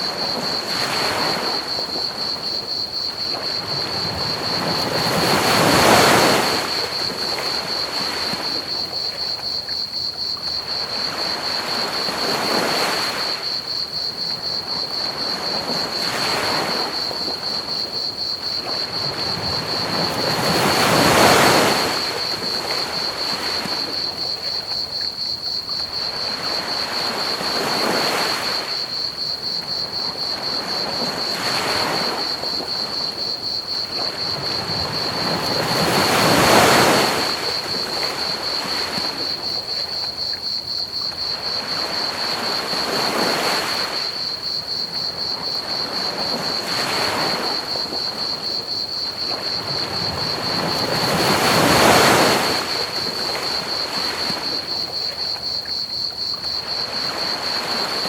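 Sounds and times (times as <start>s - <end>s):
crickets chirping: 0.0s - 58.0s
ocean waves washing onto beach: 0.0s - 58.0s.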